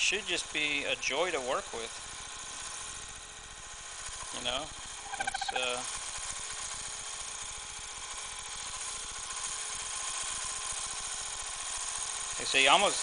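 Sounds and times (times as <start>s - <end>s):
lathe whirring while cutting metal: 0.0s - 13.0s.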